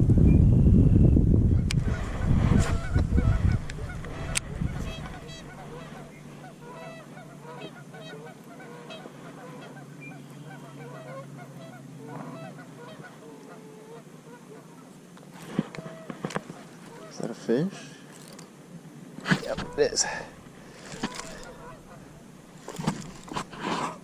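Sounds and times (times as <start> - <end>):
low steady hum: 0.0 - 24.0
birds honking: 1.6 - 18.4, 19.2 - 24.0.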